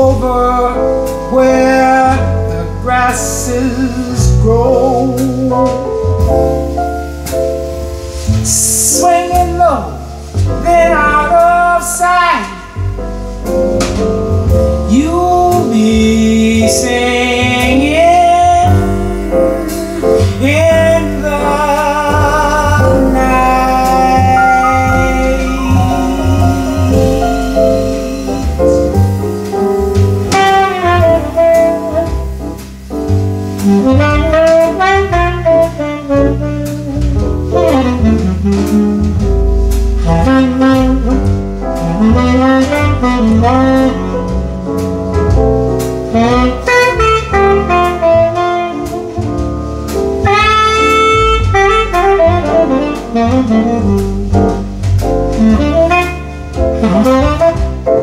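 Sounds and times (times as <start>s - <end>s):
double bass: 0.0s - 58.0s
drums: 0.0s - 58.0s
saxophone jazz solo: 0.0s - 58.0s.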